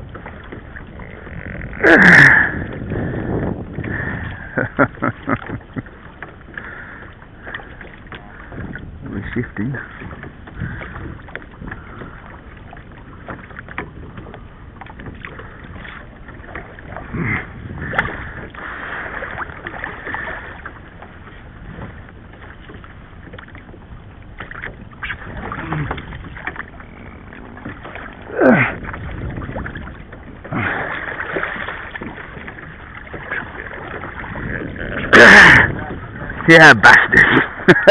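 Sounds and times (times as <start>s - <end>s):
wind on microphone: 0.0s - 5.5s, 7.9s - 22.8s, 23.6s - 37.9s
water slapping against kayak hull: 0.0s - 37.9s
water whooshes: 0.0s - 37.9s.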